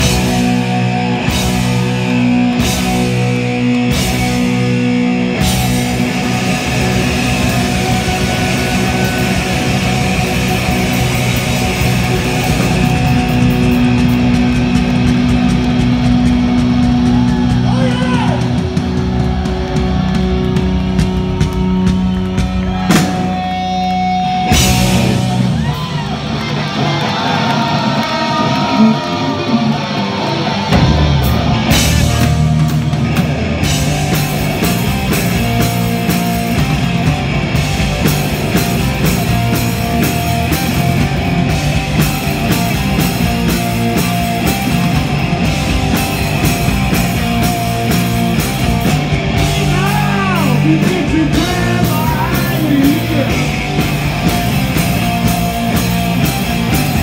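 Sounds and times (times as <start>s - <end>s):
hard rock band playing loud: 0.0s - 57.0s.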